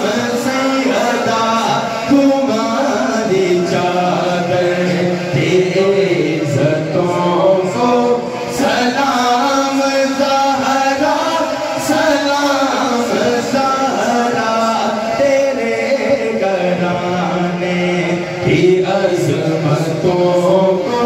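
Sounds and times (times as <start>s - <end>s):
men singing without instruments: 0.0s - 21.0s.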